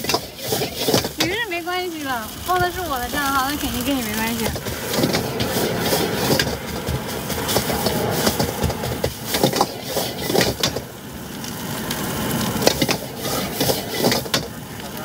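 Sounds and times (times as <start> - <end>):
steady rumble: 0.6 - 13.5.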